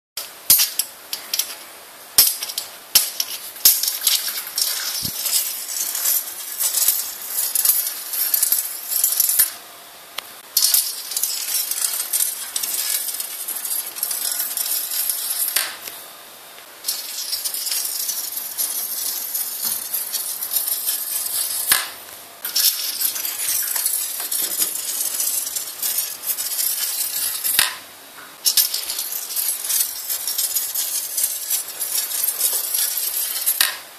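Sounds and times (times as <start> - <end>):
magnet scraping on metal bar: 2.2 - 9.6, 10.6 - 15.9, 16.8 - 27.8, 28.5 - 33.8.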